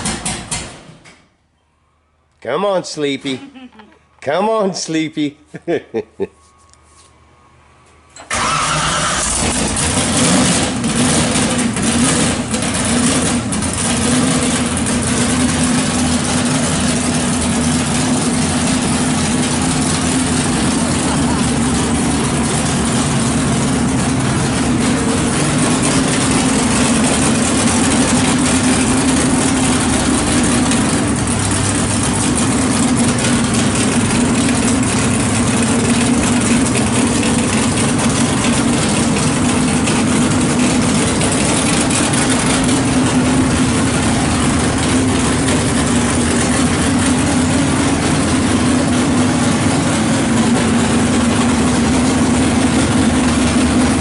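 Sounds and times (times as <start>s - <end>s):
loud engine idling: 8.2s - 54.0s.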